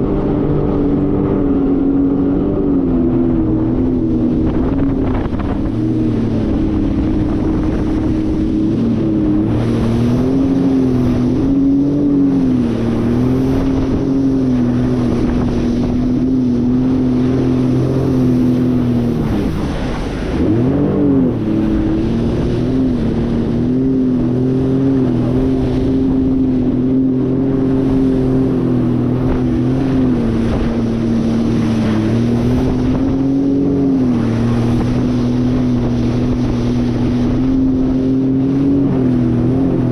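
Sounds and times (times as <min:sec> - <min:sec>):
jet ski engine running: 0:00.0 - 0:39.9
wind on microphone: 0:00.0 - 0:39.9.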